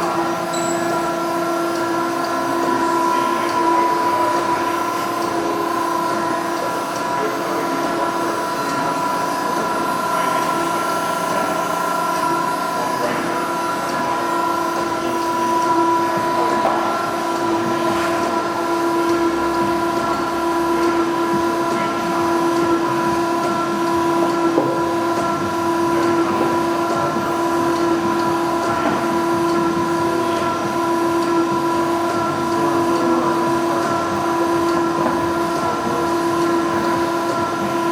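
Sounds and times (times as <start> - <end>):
surface grinder whine: 0.0 - 37.9.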